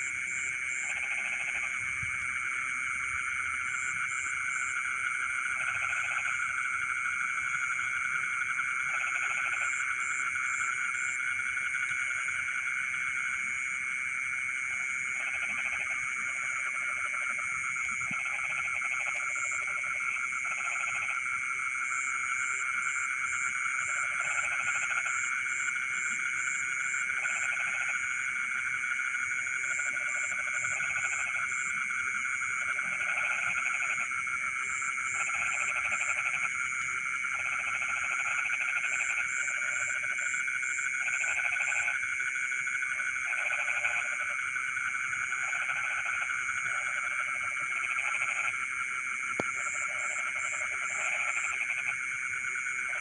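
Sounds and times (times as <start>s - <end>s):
frogs trilling chorus: 0.0s - 53.0s
low frog croaks: 0.0s - 53.0s.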